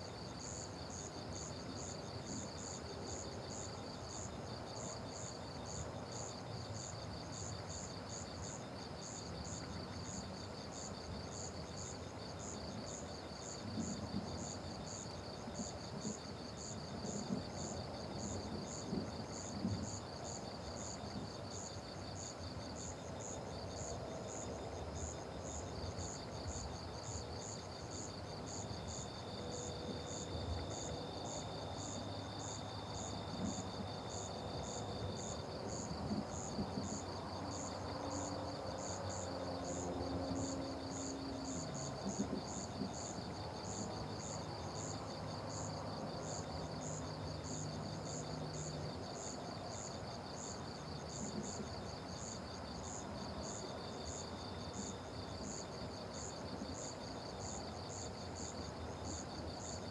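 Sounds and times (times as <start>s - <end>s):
insect trill: 0.0s - 59.9s
insects chirping: 0.0s - 59.9s
steady insect buzz: 0.0s - 59.9s.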